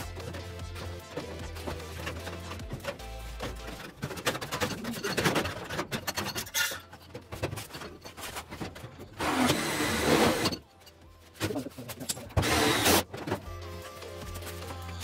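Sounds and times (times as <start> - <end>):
rubbing and scraping: 0.0 - 10.6, 11.3 - 15.0.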